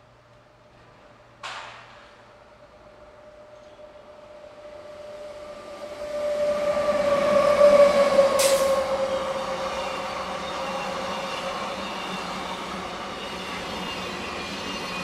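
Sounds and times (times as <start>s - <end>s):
train passing at speed: 0.1s - 15.0s.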